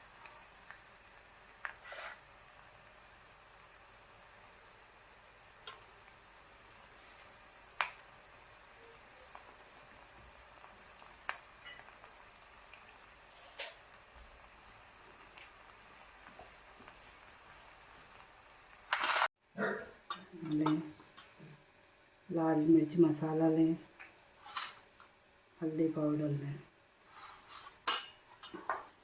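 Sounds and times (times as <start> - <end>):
food sizzling in oil: 0.0 - 19.3, 24.2 - 26.0, 26.7 - 29.0.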